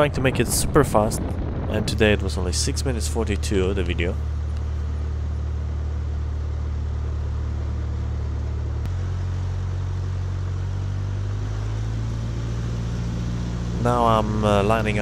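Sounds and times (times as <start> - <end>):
small plane engine and propeller drone: 0.0 - 15.0.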